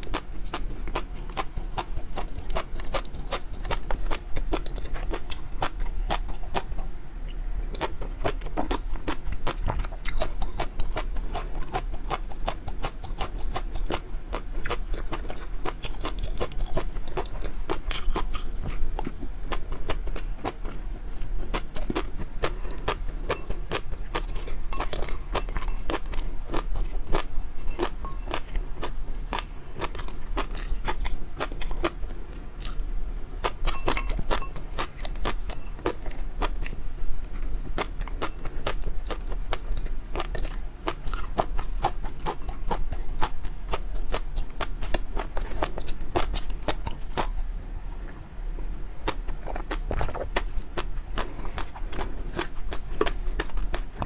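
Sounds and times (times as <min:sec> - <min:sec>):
person chewing food: 0:00.0 - 0:06.9, 0:07.7 - 0:47.4, 0:49.0 - 0:54.0.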